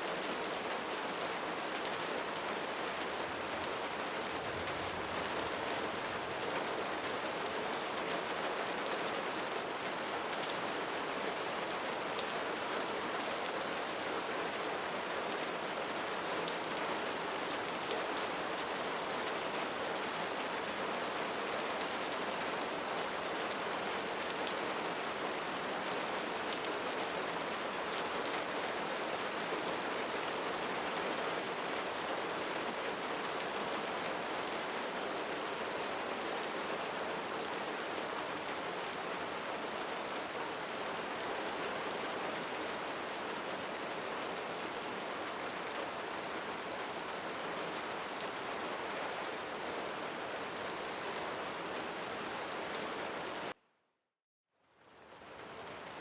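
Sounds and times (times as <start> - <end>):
rain falling on leaves: 0.0 - 53.6, 54.6 - 56.0.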